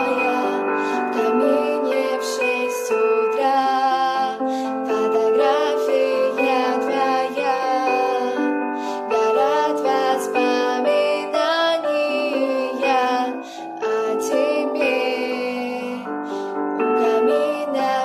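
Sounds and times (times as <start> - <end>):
piano accompaniment: 0.0 - 18.0
woman singing a pop ballad: 0.0 - 18.0.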